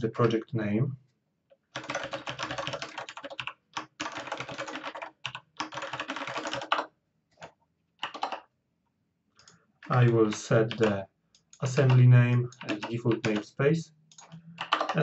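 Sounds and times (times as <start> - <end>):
computer keyboard typing: 1.7 - 8.5, 9.4 - 15.0.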